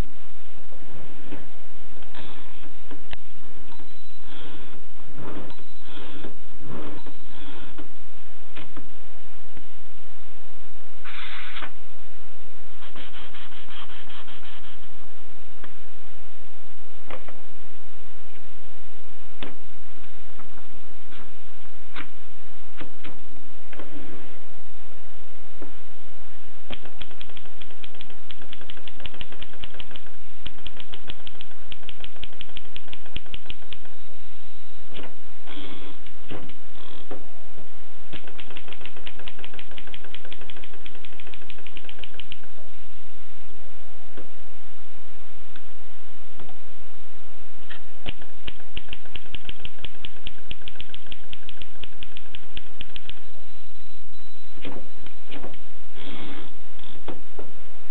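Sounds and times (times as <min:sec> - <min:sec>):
steady background hiss: 0:00.0 - 0:57.9.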